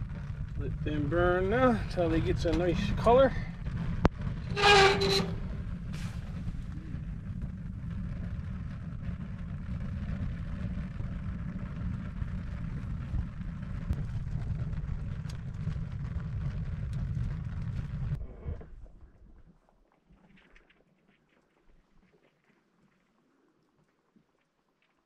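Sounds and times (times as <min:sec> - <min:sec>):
faint fire crackles: 0:00.0 - 0:25.0
low rumble of flames: 0:00.0 - 0:25.0.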